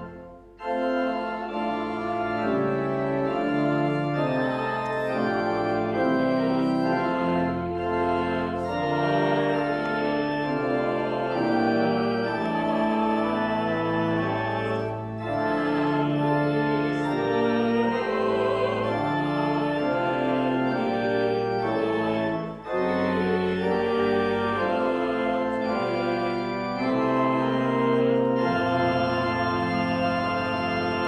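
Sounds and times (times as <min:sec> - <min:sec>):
church organ playing a hymn: 0:00.0 - 0:31.0.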